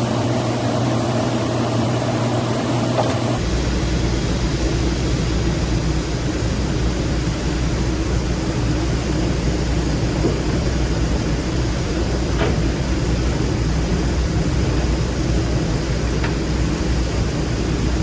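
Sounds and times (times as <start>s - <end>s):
machinery humming and hissing: 0.0s - 18.0s.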